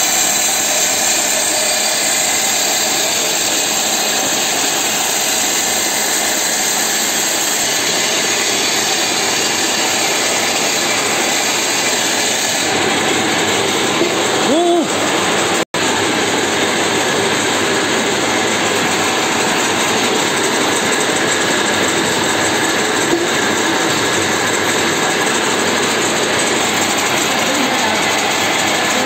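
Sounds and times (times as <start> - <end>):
woodworking machinery running: 0.0 - 29.0.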